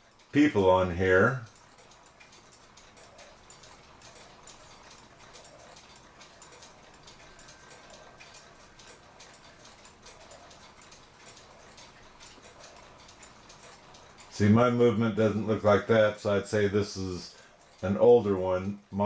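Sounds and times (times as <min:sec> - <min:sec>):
clock ticking: 0:00.0 - 0:19.0.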